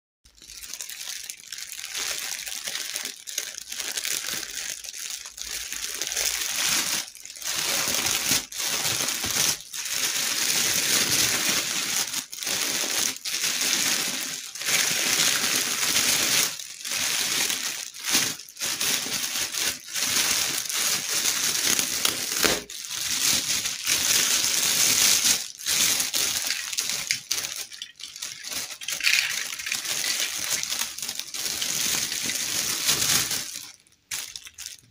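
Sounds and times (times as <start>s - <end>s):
plastic bag crinkling: 0.3s - 34.9s.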